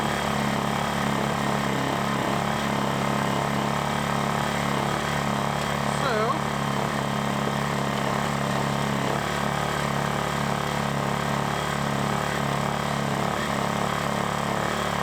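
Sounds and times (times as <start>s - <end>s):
small generator engine running: 0.0s - 15.0s.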